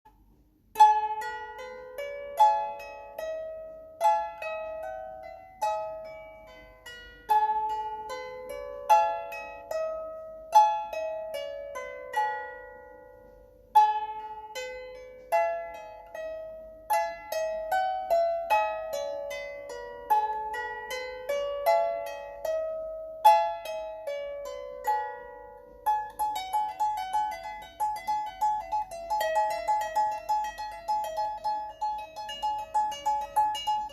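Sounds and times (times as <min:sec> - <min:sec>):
lyre plucked melody: 0:00.1 - 0:33.9.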